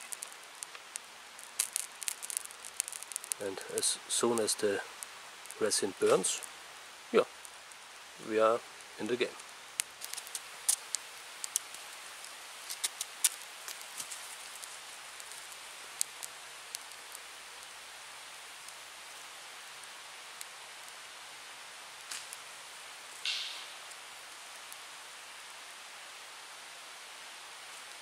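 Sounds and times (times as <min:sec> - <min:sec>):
faint steady hiss: 0:00.0 - 0:28.0
fire crackling and popping: 0:00.0 - 0:28.0.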